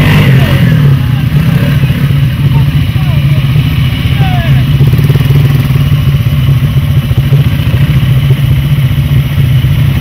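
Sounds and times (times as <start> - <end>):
quad bike engines running: 0.0 - 10.0.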